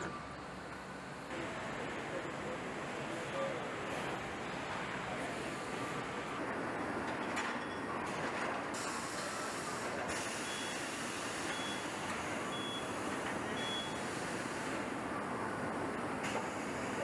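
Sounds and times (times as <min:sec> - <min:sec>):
factory machinery noise: 0:00.0 - 0:17.0.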